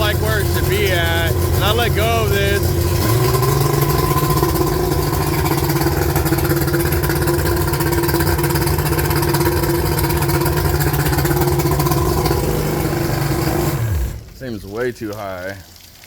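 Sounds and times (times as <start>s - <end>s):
outboard motor fast idle: 0.0s - 14.6s.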